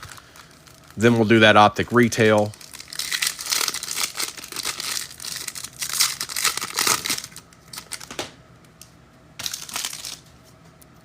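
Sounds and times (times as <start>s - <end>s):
foil wrapper crinkling and tearing: 0.0s - 8.2s, 9.4s - 10.3s.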